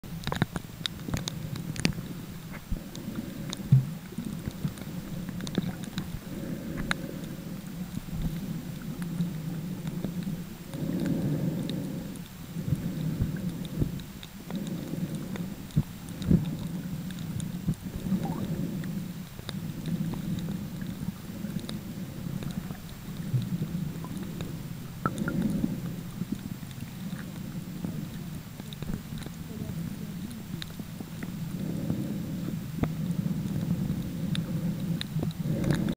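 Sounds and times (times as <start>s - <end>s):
muffled underwater rumble: 0.0s - 35.9s
sharp clicks and crackles: 0.1s - 35.9s.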